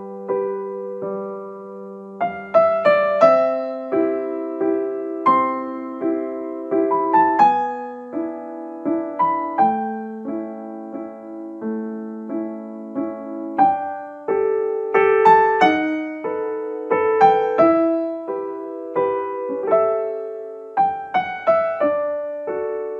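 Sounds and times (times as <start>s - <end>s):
gentle piano music: 0.0s - 22.9s.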